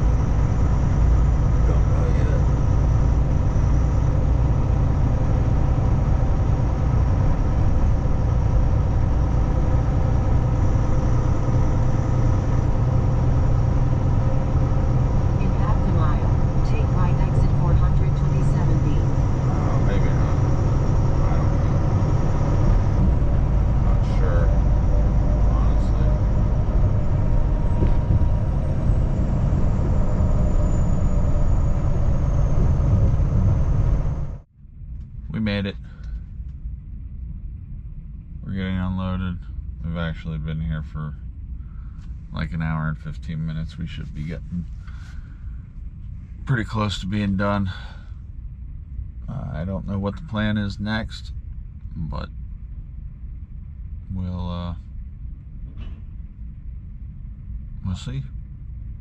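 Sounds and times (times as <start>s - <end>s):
road noise: 0.0s - 59.0s
truck engine drone: 0.0s - 59.0s.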